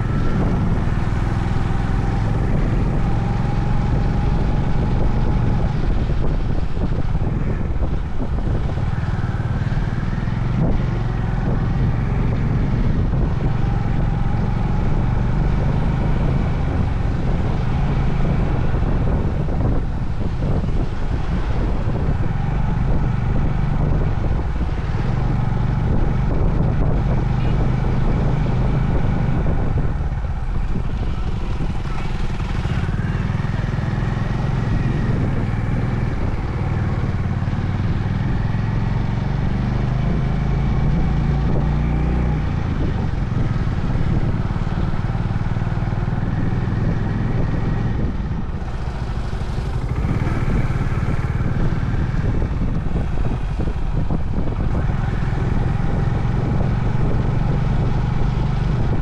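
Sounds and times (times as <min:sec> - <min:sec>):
motorcycle engine running: 0:00.0 - 0:59.0
road noise: 0:00.0 - 0:59.0
wind: 0:00.0 - 0:59.0.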